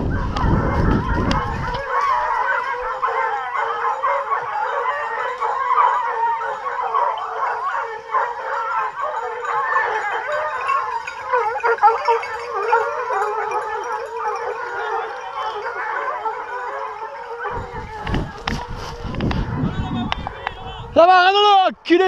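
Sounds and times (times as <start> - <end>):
hounds baying and howling: 0.0 - 21.2.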